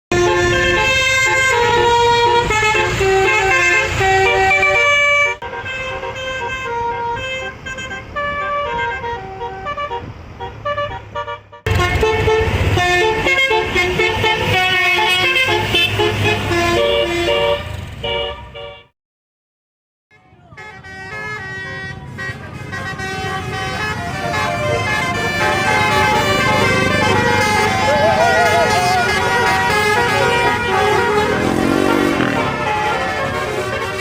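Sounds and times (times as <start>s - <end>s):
bus horn playing a tune: 0.1s - 18.9s, 20.1s - 34.0s.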